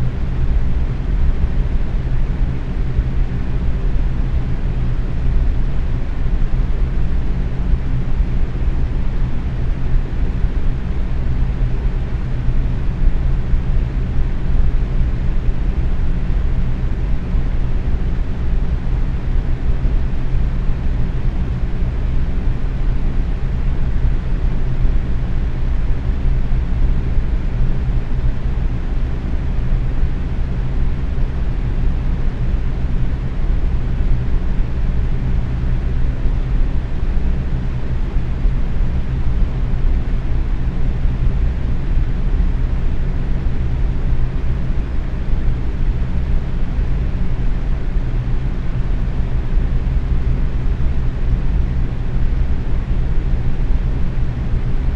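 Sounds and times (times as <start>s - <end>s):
box fan running: 0.0s - 54.9s.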